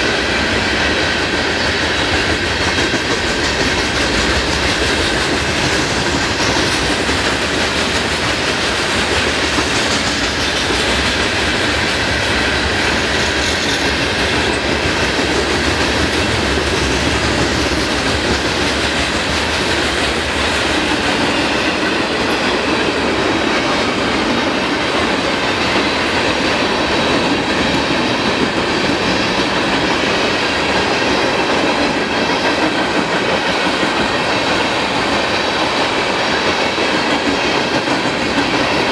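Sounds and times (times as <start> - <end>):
freight train wheels rattling: 0.0 - 38.9.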